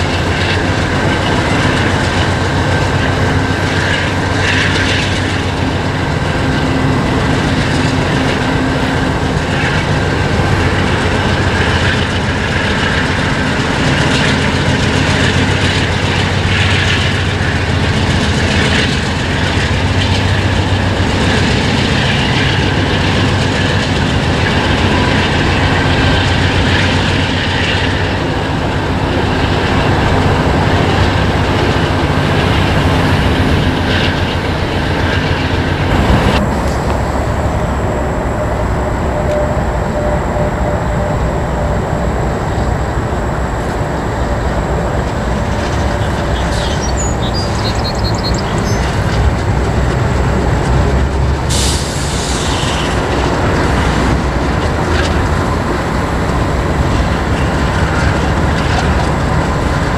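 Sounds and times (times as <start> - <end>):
diesel locomotives crossing bridge: 0.0 - 59.9
freight train cars running past: 0.0 - 59.9.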